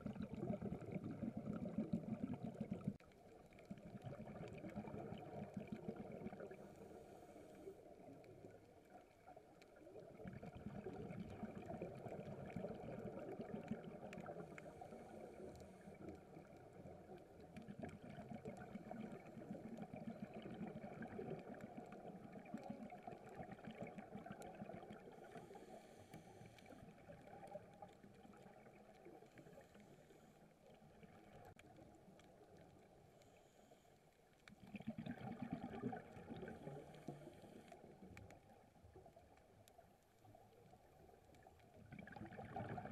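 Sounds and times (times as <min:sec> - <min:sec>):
muffled underwater water swish: 0:00.0 - 0:42.9.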